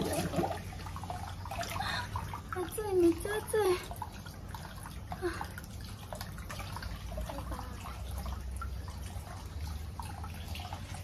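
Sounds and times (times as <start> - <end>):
water dripping and trickling: 0.0 - 11.0.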